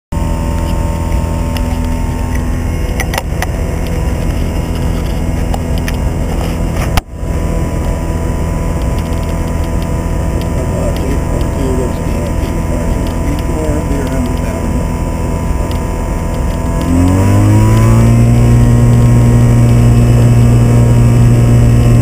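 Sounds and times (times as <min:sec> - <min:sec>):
light aircraft engine and propeller: 0:00.1 - 0:22.0.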